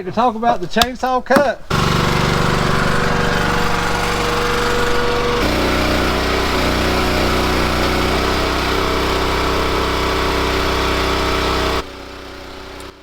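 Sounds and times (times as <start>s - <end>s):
small engine running: 1.7s - 13.0s.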